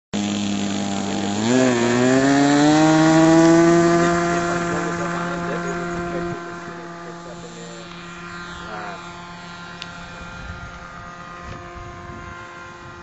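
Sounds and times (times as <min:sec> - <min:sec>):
model plane engine throttling up: 0:00.2 - 0:13.0.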